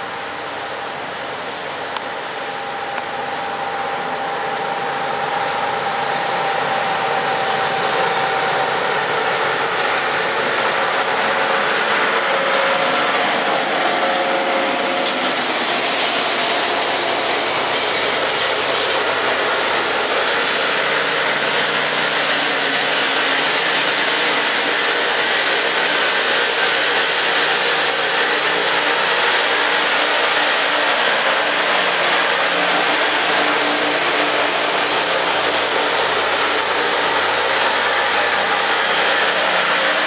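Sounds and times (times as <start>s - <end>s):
rail grinder rasping: 3.4s - 40.0s.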